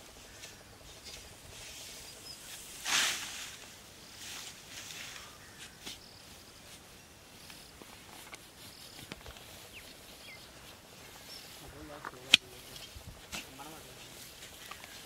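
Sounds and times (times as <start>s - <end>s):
dry grass rustling and crackling: 0.0s - 15.0s.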